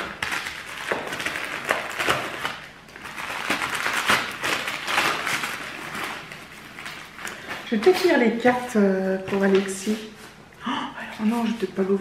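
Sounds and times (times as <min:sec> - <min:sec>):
wrapping paper rustling: 0:00.0 - 0:10.4.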